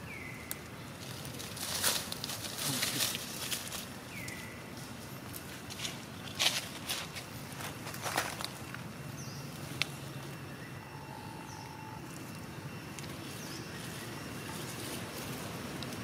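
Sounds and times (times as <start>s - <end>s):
birds chirping: 0.0s - 16.0s
low outdoor background noise: 0.0s - 16.0s.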